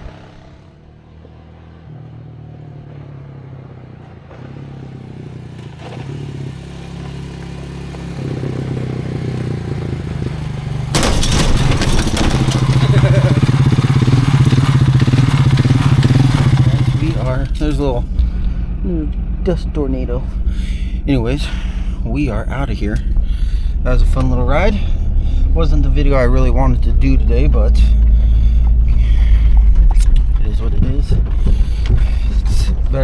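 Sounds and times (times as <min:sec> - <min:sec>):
atv engine running: 0:00.0 - 0:33.0.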